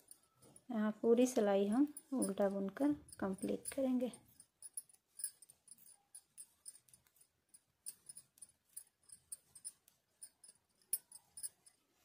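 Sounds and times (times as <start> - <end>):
knitting needles clicking: 1.9 - 11.9.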